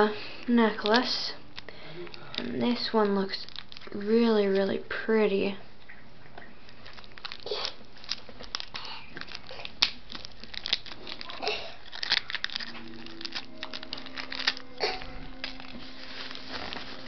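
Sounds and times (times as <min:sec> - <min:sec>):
foil and paper crinkling: 0:00.5 - 0:04.8, 0:06.7 - 0:17.0.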